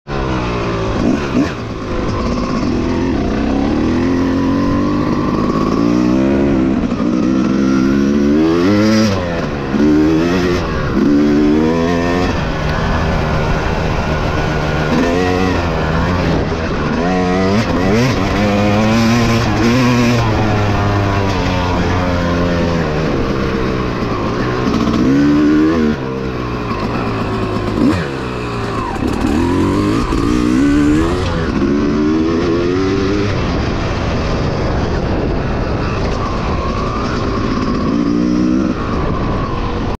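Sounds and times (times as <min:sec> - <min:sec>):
dirt bike engine revving: 0:00.1 - 0:39.7.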